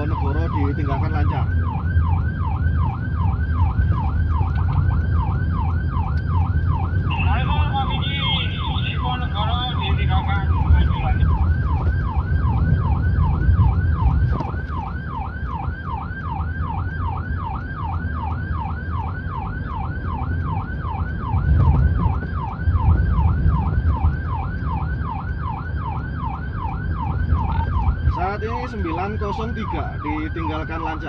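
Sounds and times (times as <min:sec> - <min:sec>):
car engine and road noise: 0:00.0 - 0:31.0
electronic siren yelping: 0:00.0 - 0:31.0.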